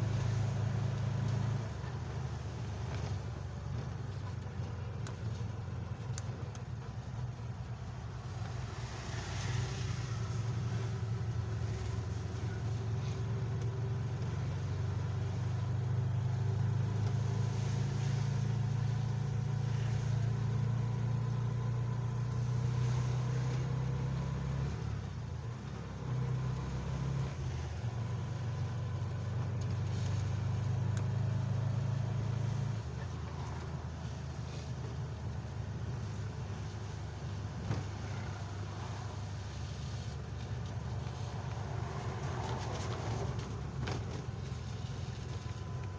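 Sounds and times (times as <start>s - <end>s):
tyres hissing on wet road: 0.0s - 6.2s, 6.9s - 45.9s
vehicle engine running: 0.0s - 45.9s.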